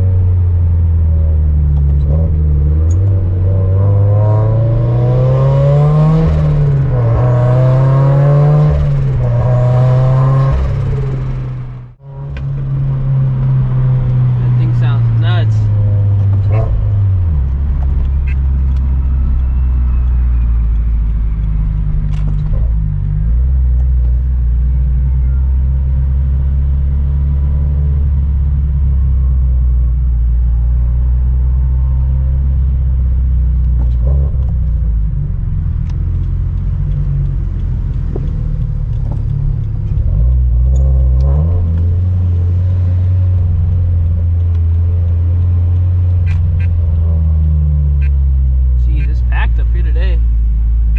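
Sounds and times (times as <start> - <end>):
sports car engine drone: 0.0 - 50.9.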